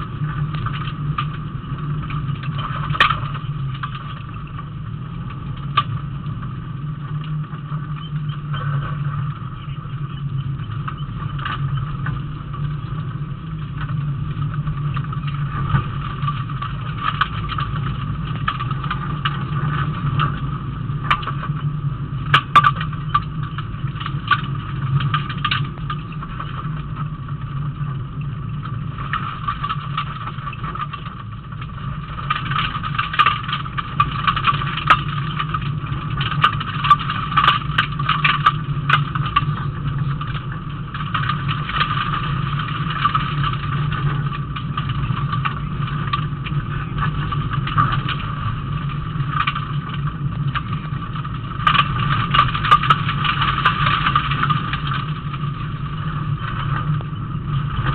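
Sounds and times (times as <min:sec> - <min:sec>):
car engine under load: 0:00.0 - 0:57.9
knocks and clatters: 0:00.0 - 0:57.9.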